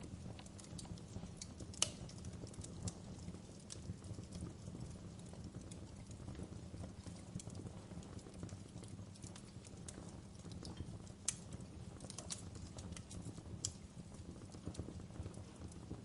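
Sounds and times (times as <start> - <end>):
fire low rumble: 0.0 - 16.0
wood fire crackling and popping: 0.0 - 16.0.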